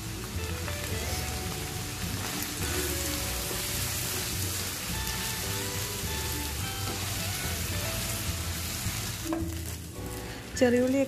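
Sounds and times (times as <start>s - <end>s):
background music: 0.0s - 11.0s
vegetables sizzling in hot oil: 0.0s - 11.0s
spatula stirring in wok: 0.2s - 10.5s.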